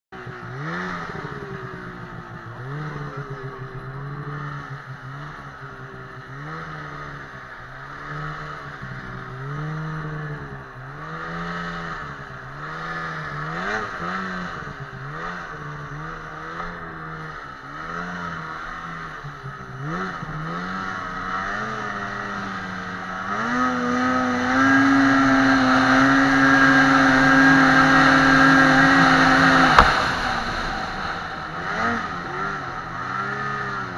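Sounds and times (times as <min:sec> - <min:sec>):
snowmobile engine revving: 0:00.2 - 0:33.9.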